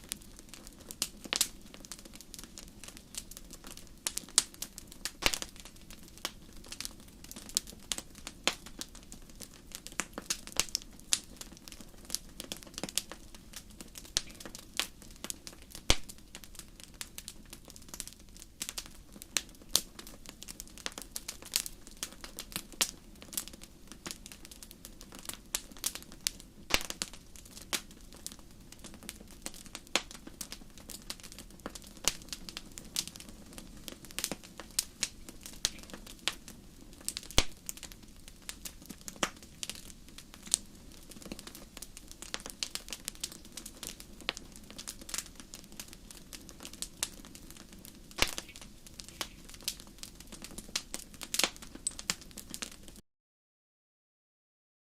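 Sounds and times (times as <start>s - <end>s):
firewood crackling and popping: 0.0s - 53.0s
low hiss of fire: 0.0s - 53.0s.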